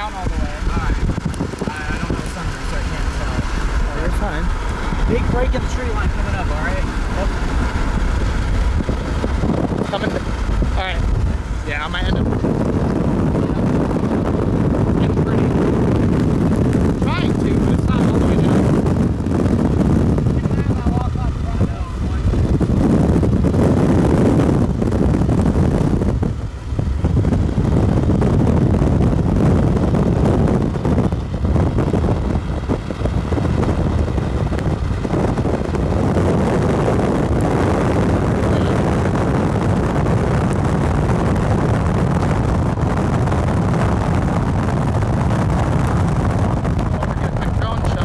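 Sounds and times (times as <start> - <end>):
road and engine rumble: 0.0 - 48.0
wind buffeting microphone: 0.0 - 48.0.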